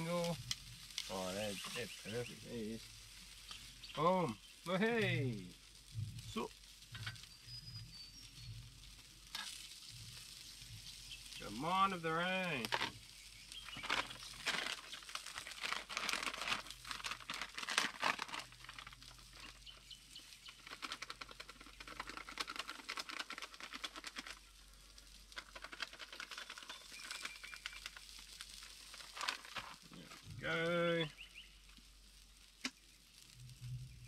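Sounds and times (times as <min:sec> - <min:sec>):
crackling and crinkling: 0:00.0 - 0:34.0.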